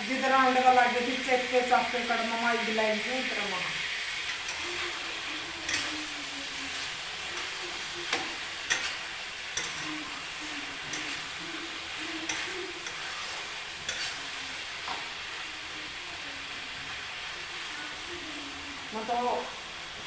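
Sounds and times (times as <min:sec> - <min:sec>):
food sizzling in a pan: 0:00.0 - 0:20.0
spoon scraping a pan: 0:00.1 - 0:18.1.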